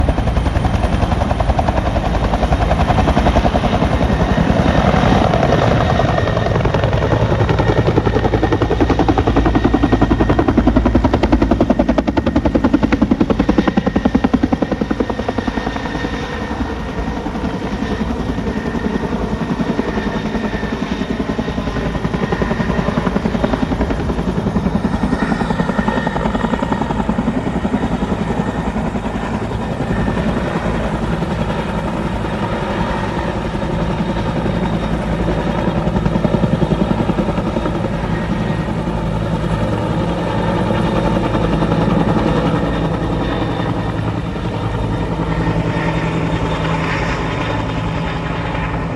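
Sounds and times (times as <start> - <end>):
helicopter engine rumble: 0.0 - 48.9
helicopter rotor chopping: 0.0 - 48.9.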